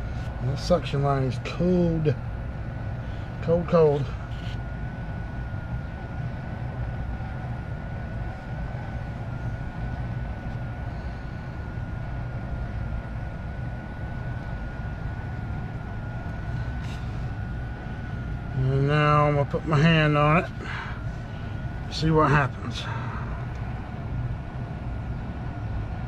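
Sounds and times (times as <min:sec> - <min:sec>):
high whine: 0:00.0 - 0:26.0
indoor unit blower hum: 0:00.0 - 0:26.0.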